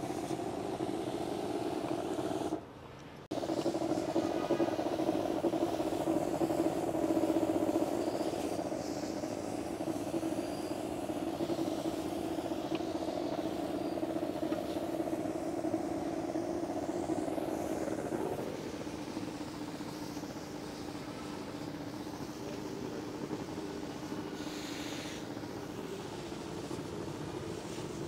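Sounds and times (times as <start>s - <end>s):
motorized sprayer humming: 0.0s - 2.6s, 3.3s - 28.0s.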